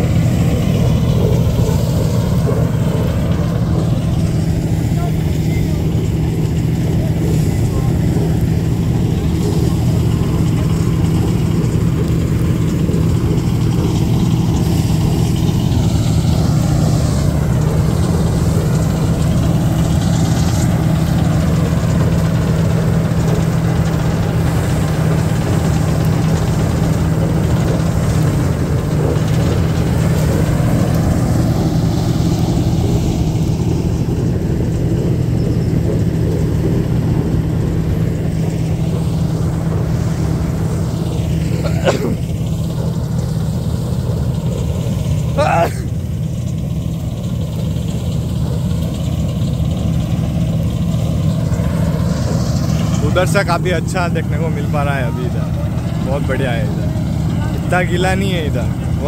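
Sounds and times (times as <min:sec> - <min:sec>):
combine harvester engine humming: 0:00.0 - 0:59.0.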